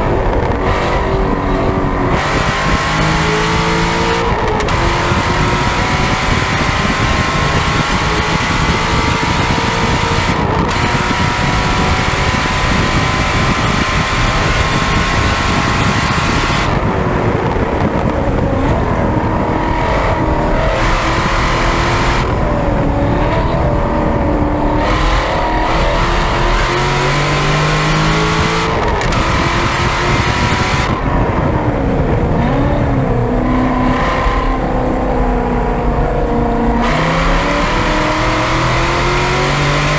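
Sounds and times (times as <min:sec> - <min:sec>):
sports car exhaust roaring: 0:00.0 - 0:39.9.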